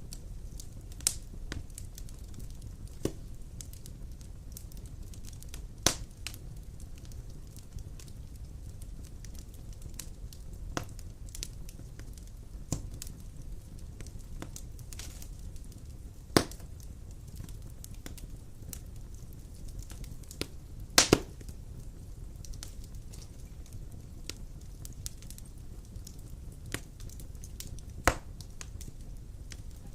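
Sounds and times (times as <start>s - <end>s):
fire crackling and popping: 0.0s - 29.9s
fire rumbling: 0.0s - 29.9s.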